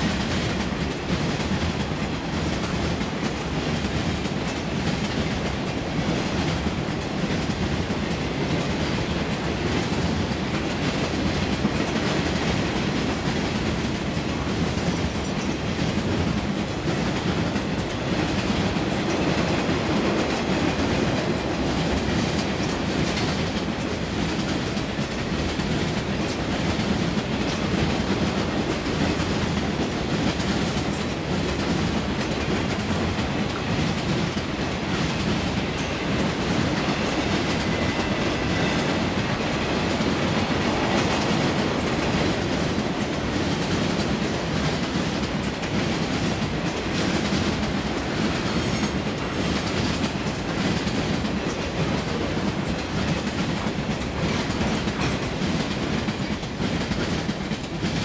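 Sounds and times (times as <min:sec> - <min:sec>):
steel wheels on rails: 0:00.0 - 0:58.0.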